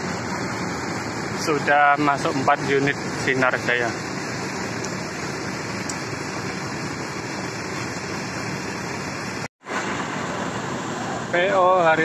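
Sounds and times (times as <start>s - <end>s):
bus engines running: 0.0s - 12.0s.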